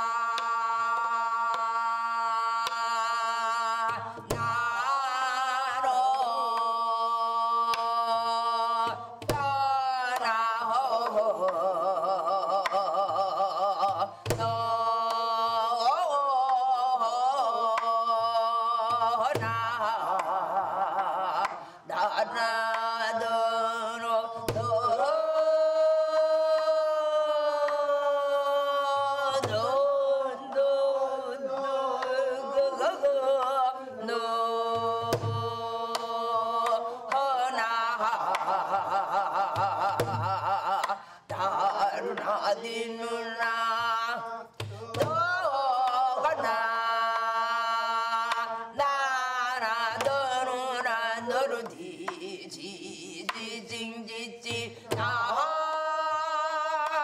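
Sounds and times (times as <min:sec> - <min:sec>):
high voice singing with vibrato: 0:00.0 - 0:57.0.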